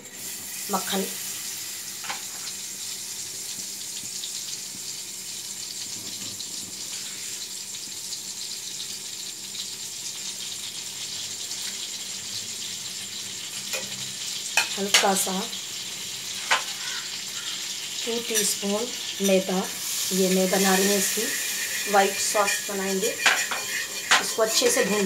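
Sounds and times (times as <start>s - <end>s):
butter sizzling in a wok: 0.0s - 25.0s.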